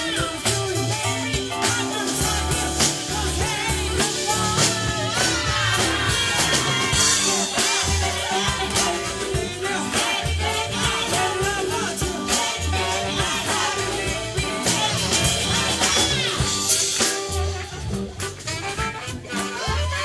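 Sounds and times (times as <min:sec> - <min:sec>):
bass: 0:00.0 - 0:20.0
drum kit: 0:00.0 - 0:20.0
soul-rock band playing: 0:00.0 - 0:20.0.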